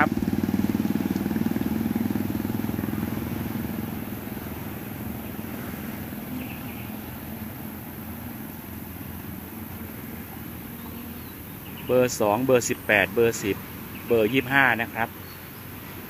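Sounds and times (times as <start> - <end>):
boat diesel engine drone: 0.0 - 16.0
steady wash of noise: 0.0 - 16.0.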